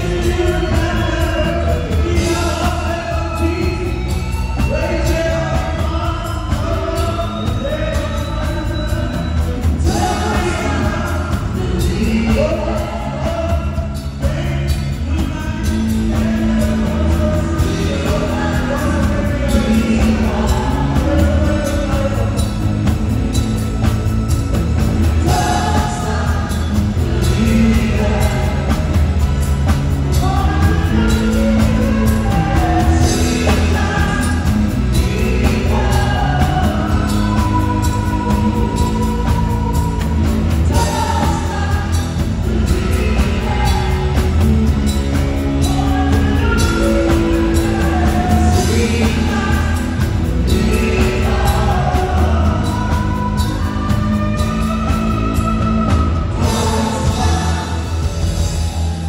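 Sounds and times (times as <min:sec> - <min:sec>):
live pop band playing: 0:00.0 - 0:59.0
people singing: 0:00.0 - 0:59.0.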